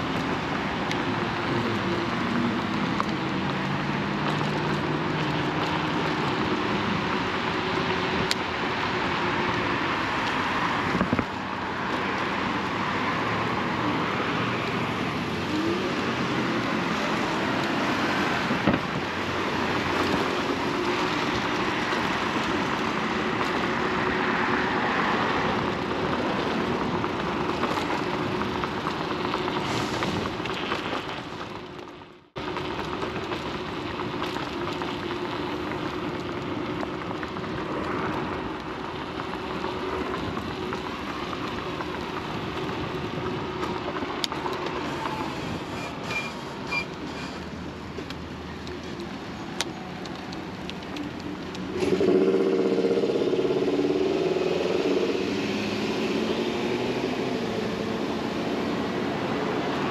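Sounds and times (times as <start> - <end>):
wind and tyre hiss: 0.0 - 59.9.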